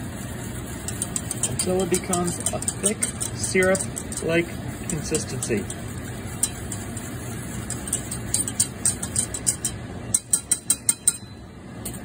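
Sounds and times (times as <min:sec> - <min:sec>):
spoon stirring thick sauce: 0:00.0 - 0:10.8
steady low hum: 0:00.0 - 0:12.0
spoon scraping metal saucepan: 0:00.2 - 0:11.2.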